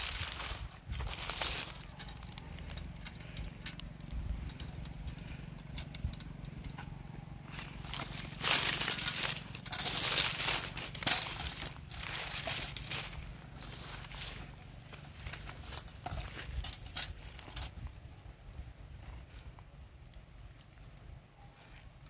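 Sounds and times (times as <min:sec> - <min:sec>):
metal scraping on trunk: 0:00.0 - 0:17.8
metallic clicks and clinks: 0:00.0 - 0:18.1.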